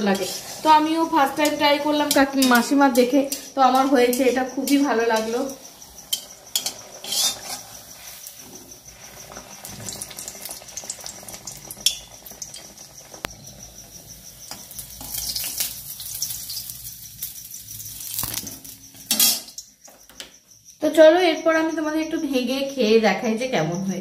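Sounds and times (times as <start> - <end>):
food sizzling in hot oil: 0.0 - 19.8.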